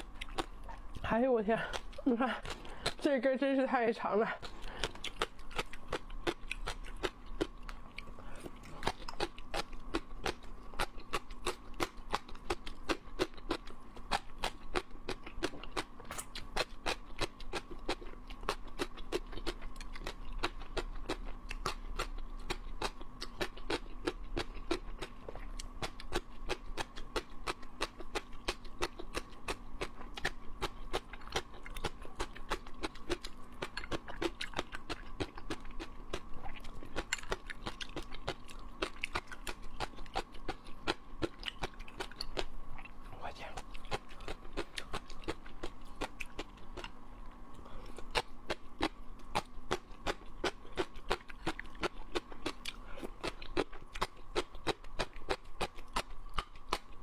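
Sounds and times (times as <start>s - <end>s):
crunching crisp vegetables: 0.0s - 3.4s, 4.3s - 57.0s.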